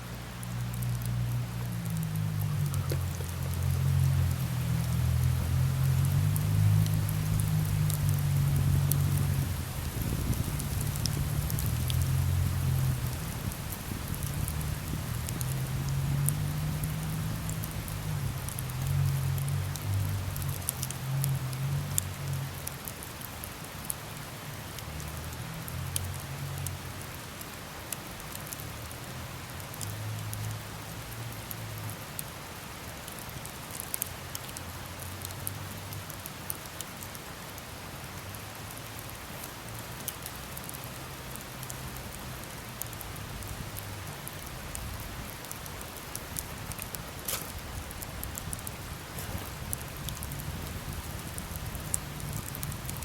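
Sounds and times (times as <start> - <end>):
campfire crackling and popping: 0.3 - 53.0.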